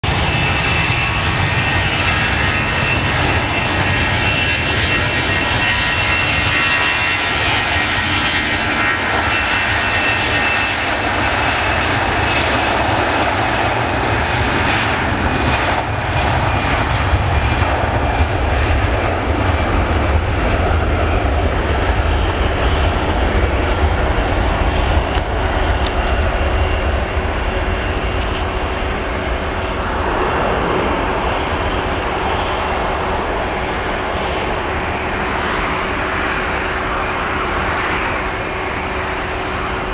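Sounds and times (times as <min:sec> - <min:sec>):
jet engines at take-off: 0:00.0 - 0:39.9.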